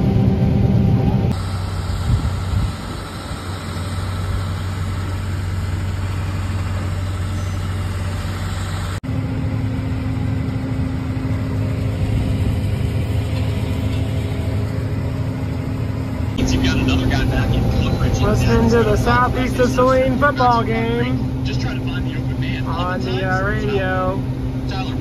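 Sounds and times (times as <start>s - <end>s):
combine harvester humming: 0.0s - 25.0s
tractor with grain auger running: 0.0s - 25.0s.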